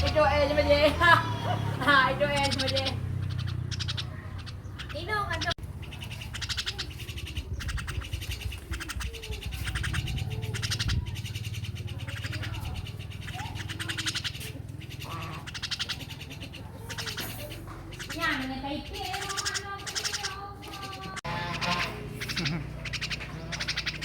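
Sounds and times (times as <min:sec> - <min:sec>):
starling rattling chatter: 0:00.0 - 0:24.0.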